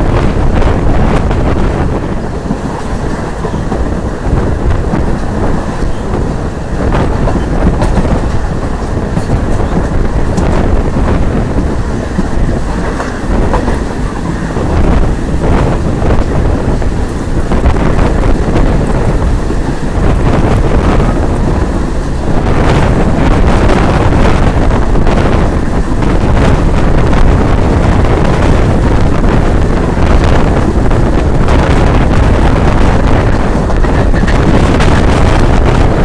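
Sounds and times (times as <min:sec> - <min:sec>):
train rumbling and rattling on track: 0:00.0 - 0:36.0
wind buffeting microphone: 0:00.0 - 0:36.0.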